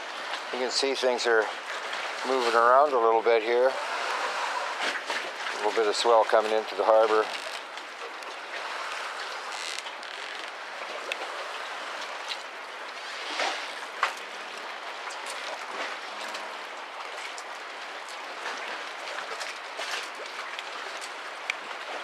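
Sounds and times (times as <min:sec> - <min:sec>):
choppy water: 0:00.0 - 0:22.0.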